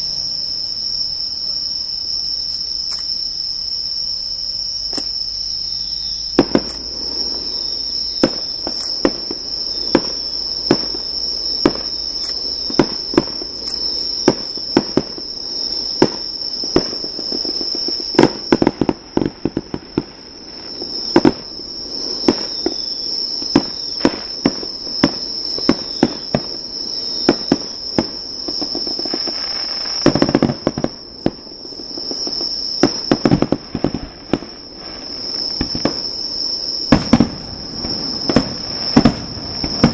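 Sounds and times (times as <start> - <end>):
high-pitched insect chorus: 0.0 - 39.9
fireworks bangs and crackles: 4.8 - 39.9.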